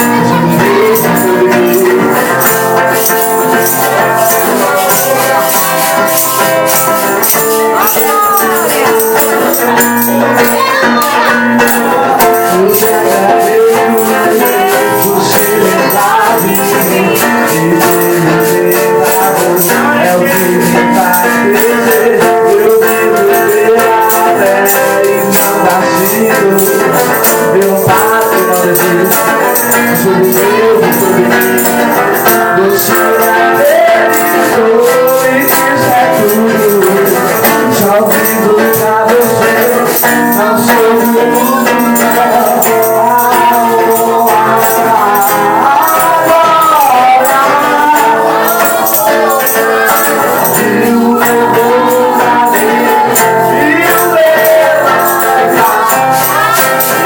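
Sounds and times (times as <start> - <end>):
congregation singing: 0.0 - 57.0
tambourines shaking: 0.0 - 57.0.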